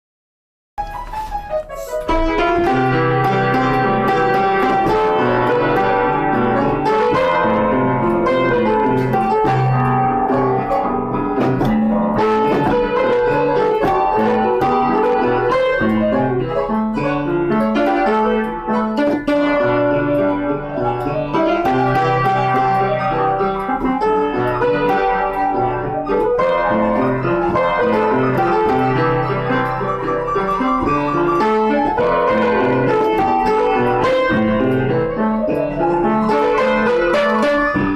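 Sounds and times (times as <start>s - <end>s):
piano music: 0.8s - 37.9s.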